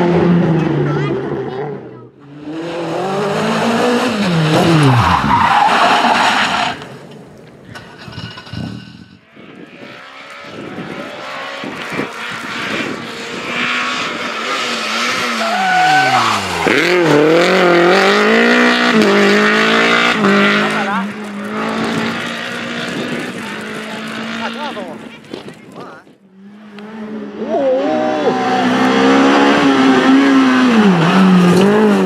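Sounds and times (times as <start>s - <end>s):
rally car engines revving: 0.0s - 32.0s
tyres skidding: 0.4s - 32.0s.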